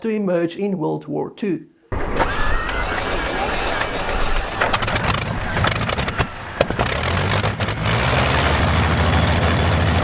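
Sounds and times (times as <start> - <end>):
aircraft engine starting: 1.9 - 10.0.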